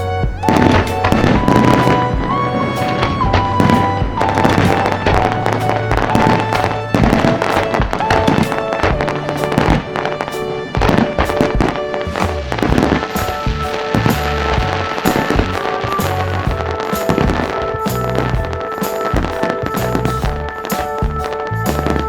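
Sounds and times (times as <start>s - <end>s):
fireworks bangs: 0.0s - 22.0s
loud music with held notes: 0.0s - 22.0s.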